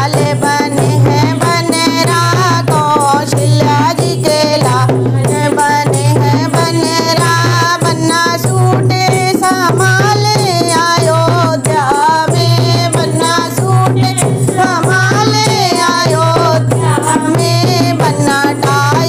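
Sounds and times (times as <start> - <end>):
hand drum beating: 0.0 - 19.0
women and girl singing folk song: 0.0 - 19.0.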